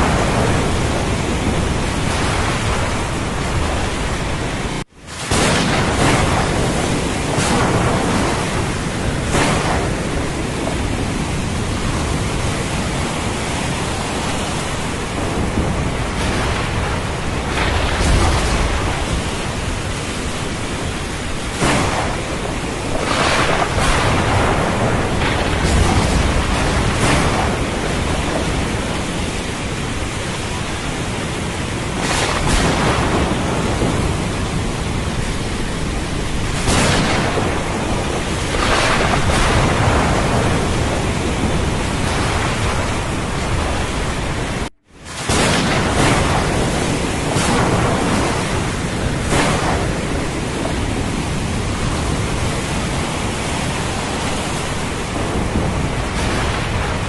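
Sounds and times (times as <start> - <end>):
heavy rain: 0.0 - 57.0
low thunder rumble: 0.0 - 57.0
ocean surf: 0.0 - 57.0.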